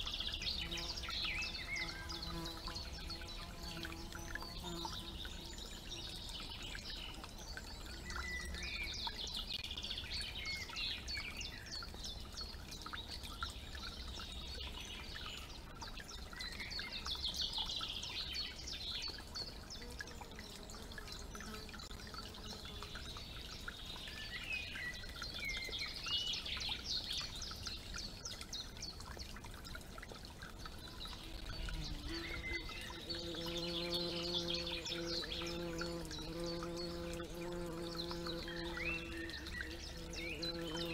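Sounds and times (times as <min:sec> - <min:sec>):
songbirds chirping and trilling: 0:00.0 - 0:40.9
stream water trickling: 0:00.0 - 0:40.9.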